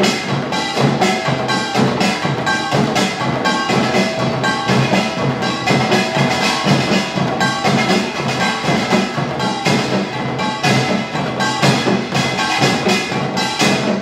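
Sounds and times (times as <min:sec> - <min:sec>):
barrel drums: 0:00.0 - 0:14.0
hourglass drums: 0:00.0 - 0:14.0
large gong: 0:00.0 - 0:14.0
small gongs clanging: 0:00.0 - 0:14.0.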